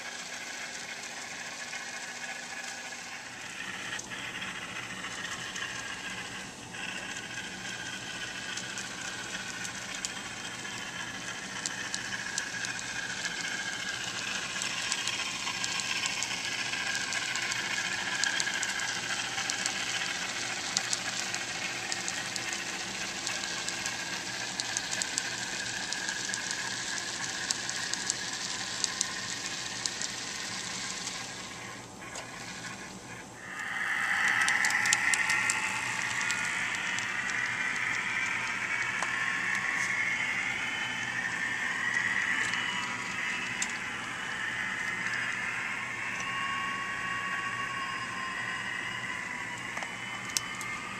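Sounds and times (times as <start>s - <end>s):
model train whirring: 0.0s - 50.9s
wheels clicking on rail: 0.0s - 50.9s.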